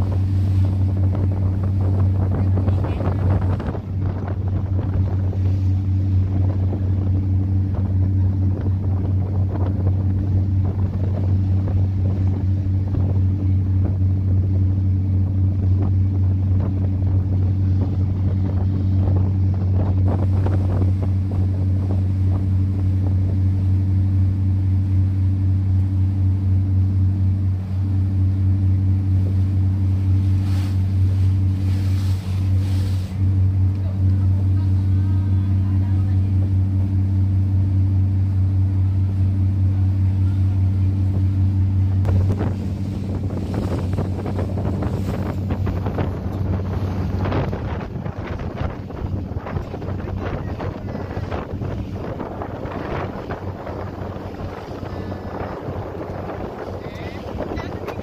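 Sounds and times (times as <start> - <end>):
boat engine droning: 0.0 - 58.0
rushing water: 0.0 - 58.0
wind on microphone: 0.0 - 58.0.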